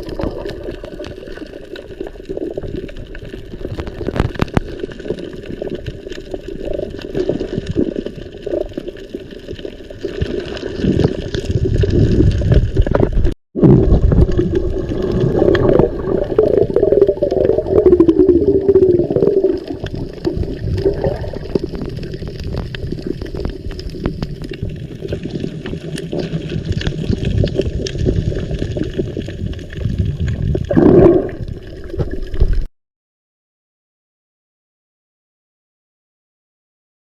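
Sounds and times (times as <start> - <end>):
water sloshing and gurgling: 0.0 - 32.7.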